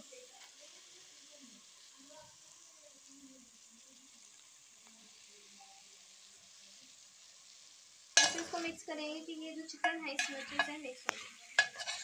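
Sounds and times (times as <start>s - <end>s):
faint sizzling in a pot: 0.0s - 12.0s.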